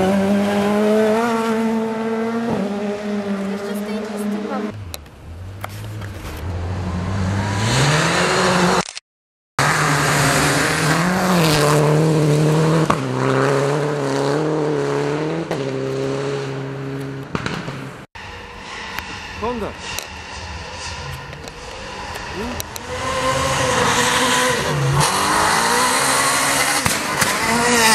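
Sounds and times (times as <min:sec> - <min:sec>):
rally car engine revving: 0:00.0 - 0:08.8, 0:09.6 - 0:27.9.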